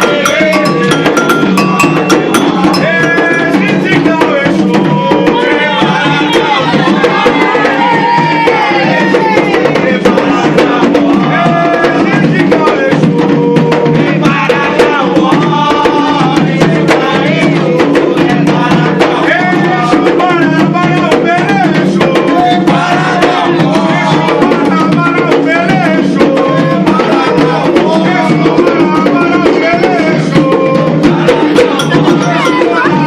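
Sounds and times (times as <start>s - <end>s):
group singing a chant: 0.0s - 33.0s
hand drums playing: 0.0s - 33.0s.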